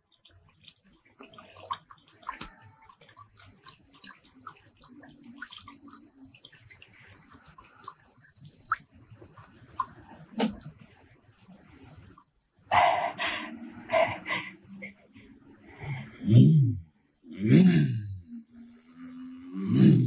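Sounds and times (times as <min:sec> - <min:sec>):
water splashing and dribbling: 0:00.0 - 0:16.1.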